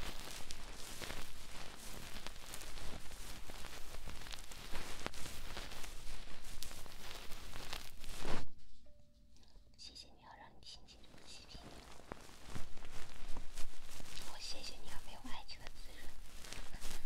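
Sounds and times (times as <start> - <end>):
scratching on microphone: 0.0 - 8.6, 11.0 - 17.0.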